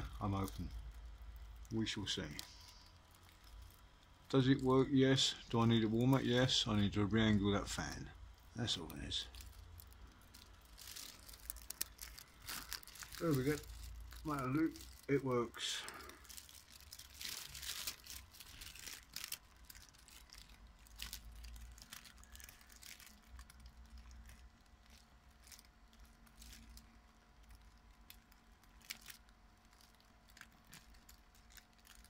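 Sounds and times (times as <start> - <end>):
faint steady hum: 0.0 - 32.0
foil insulation crinkling: 0.0 - 32.0.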